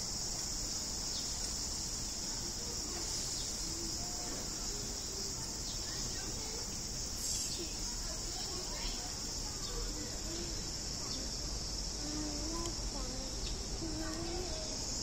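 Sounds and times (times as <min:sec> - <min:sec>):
cicada chorus drone: 0:00.0 - 0:15.0.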